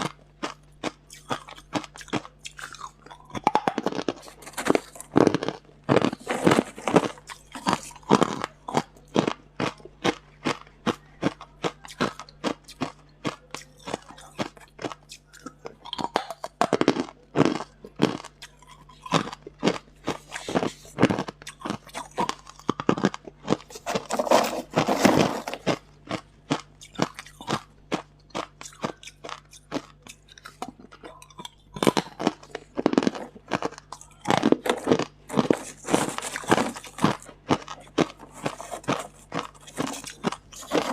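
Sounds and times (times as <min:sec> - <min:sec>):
ice being crunched by teeth: 0:00.0 - 0:10.6, 0:15.8 - 0:40.9.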